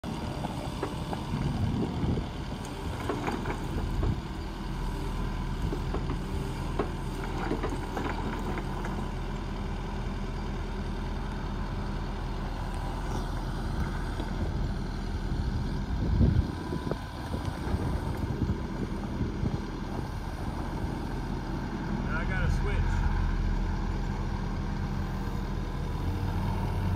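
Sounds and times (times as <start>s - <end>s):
excavator engine drone with whine: 0.0s - 26.9s.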